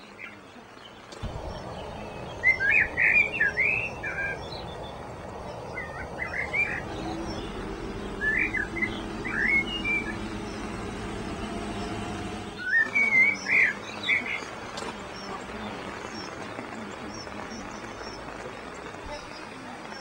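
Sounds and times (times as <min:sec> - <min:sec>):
steady background noise: 0:00.0 - 0:20.0
songbird warbling: 0:01.1 - 0:18.4.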